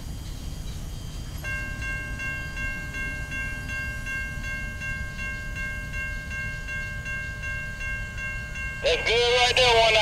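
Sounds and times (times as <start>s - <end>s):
railroad crossing bell ringing: 0.0s - 10.0s.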